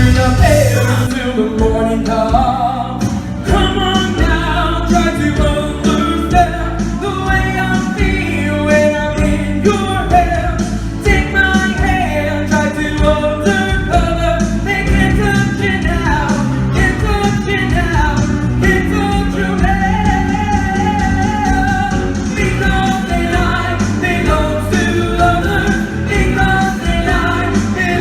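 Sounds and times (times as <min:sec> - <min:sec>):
man singing: 0:00.0 - 0:28.0
rock and roll backing track: 0:00.0 - 0:28.0.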